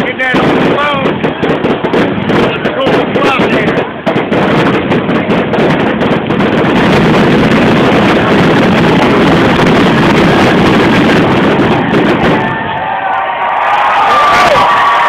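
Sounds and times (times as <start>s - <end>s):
fireworks continuous rumble: 0.0s - 15.0s
fireworks cracking bangs: 0.0s - 15.0s.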